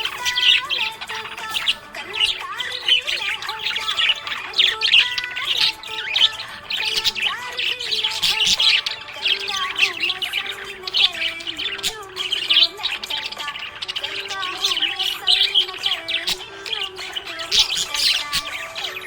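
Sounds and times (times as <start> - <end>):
budgerigars chirping: 0.0 - 19.0.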